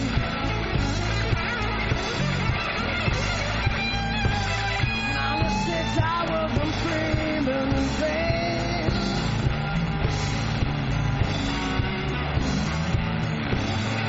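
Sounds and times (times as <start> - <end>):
bass guitar: 0.0 - 14.0
drum beat: 0.0 - 14.0
electric guitar: 0.0 - 14.0.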